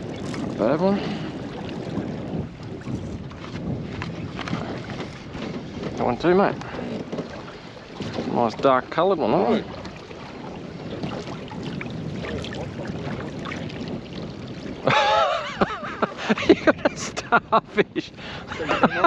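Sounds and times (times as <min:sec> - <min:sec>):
wind and water rushing: 0:00.0 - 0:19.0.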